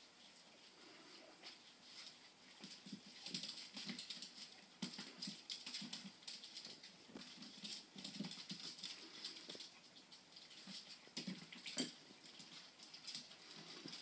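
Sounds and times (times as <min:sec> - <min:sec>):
puppy claws clicking on hard floor: 0:02.0 - 0:14.0.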